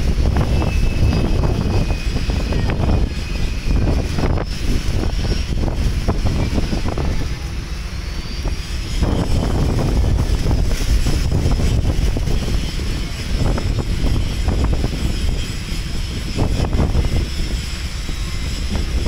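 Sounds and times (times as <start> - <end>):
faint high wind whistle: 0.0 - 19.0
wind buffeting microphone: 0.0 - 19.0.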